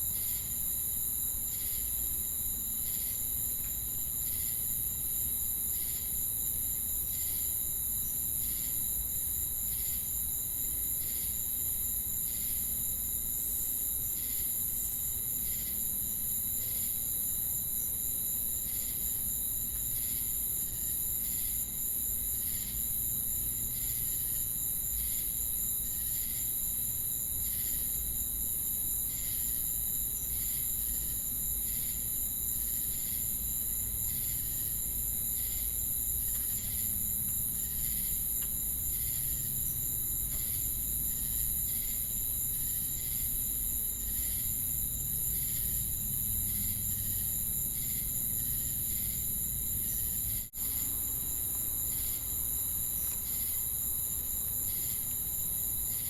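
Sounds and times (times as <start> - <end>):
crickets and cicadas droning: 0.0 - 56.0
insect chirping: 0.0 - 56.0.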